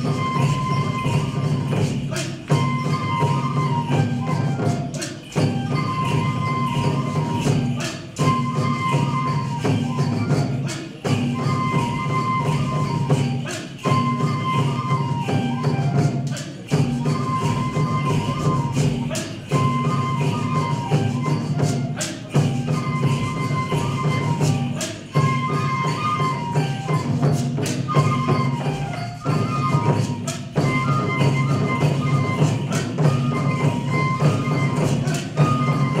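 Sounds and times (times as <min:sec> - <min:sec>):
drumming: 0:00.0 - 0:36.0
jingling percussion: 0:00.0 - 0:36.0.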